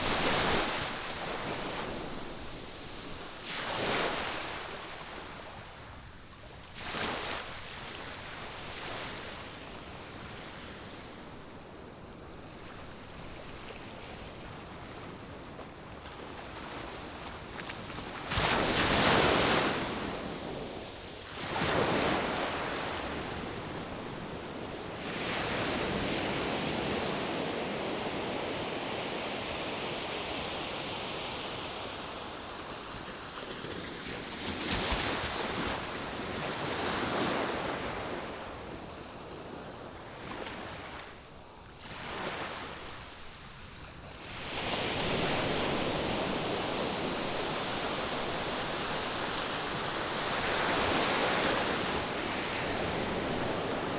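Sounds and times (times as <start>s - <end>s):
waves breaking on shore: 0.0s - 11.6s, 15.6s - 30.4s, 31.0s - 53.9s.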